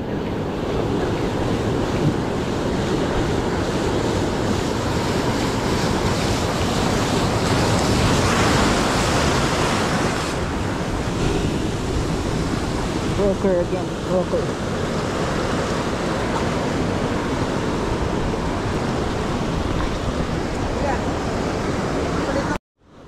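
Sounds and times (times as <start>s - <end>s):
ocean surf breaking on rocks: 0.0s - 22.6s.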